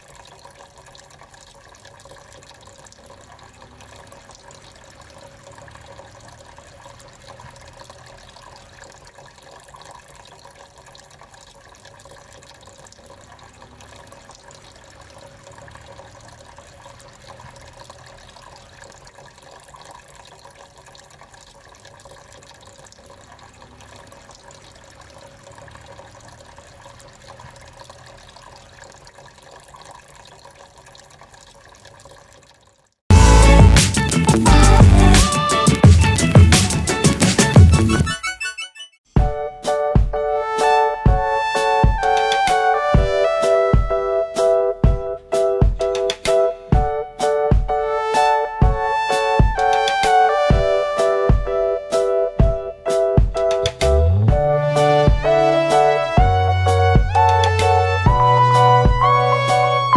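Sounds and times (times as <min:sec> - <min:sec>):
fountain water trickling: 0:00.0 - 0:38.0, 0:40.9 - 0:59.9.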